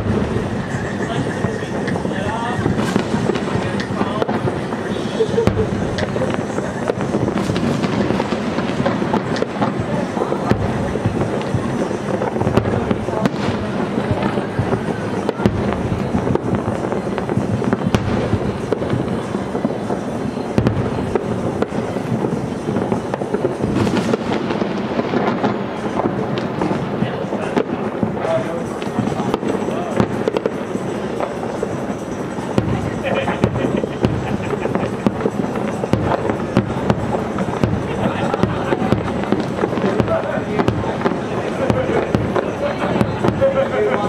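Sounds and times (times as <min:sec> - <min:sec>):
firework shells bursting: 0:00.0 - 0:44.0.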